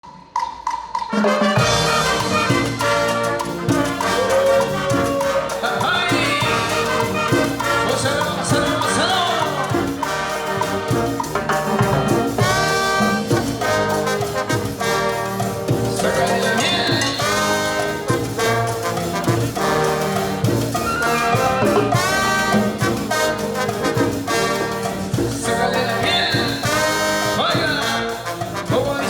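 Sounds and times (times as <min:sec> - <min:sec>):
brass band playing cumbia: 0:00.4 - 0:29.0.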